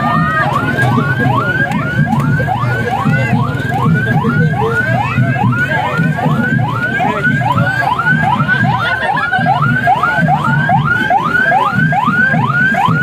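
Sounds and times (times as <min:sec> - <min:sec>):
electronic siren whooping: 0:00.0 - 0:13.0.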